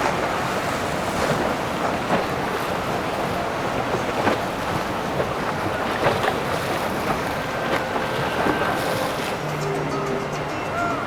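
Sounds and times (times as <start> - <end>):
boats on river water: 0.0 - 11.0.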